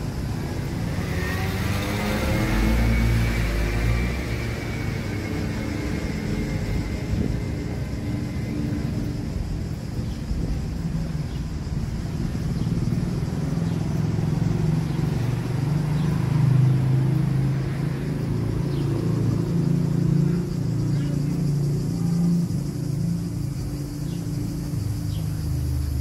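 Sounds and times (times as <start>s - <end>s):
traffic engine rumble: 0.0s - 26.0s.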